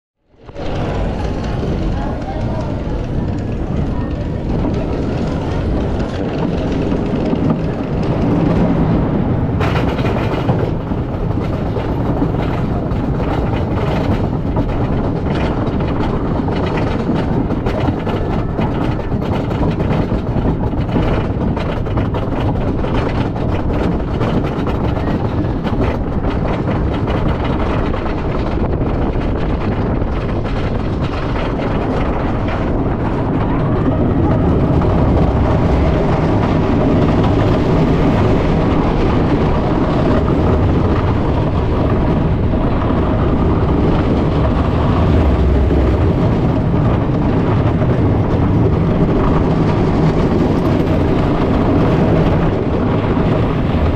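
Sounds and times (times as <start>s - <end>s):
lift chain rumble: 0.3s - 53.9s
rapid clicking: 0.4s - 53.9s.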